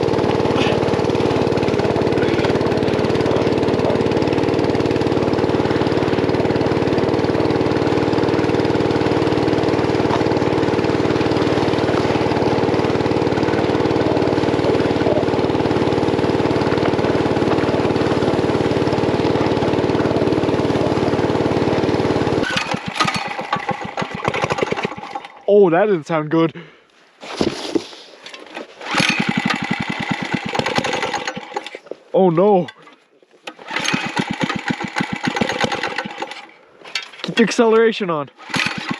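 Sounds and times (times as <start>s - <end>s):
small engine running: 0.0s - 25.4s, 28.8s - 32.0s, 33.5s - 36.6s, 38.4s - 38.9s.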